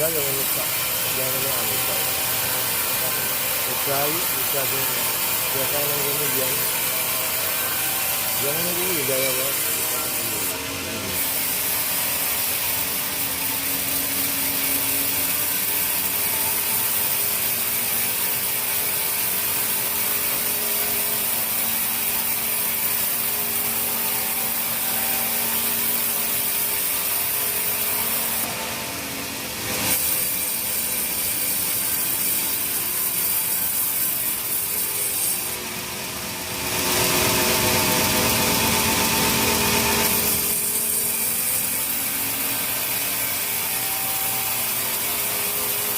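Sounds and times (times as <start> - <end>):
sawmill saw cutting timber: 0.0 - 45.9.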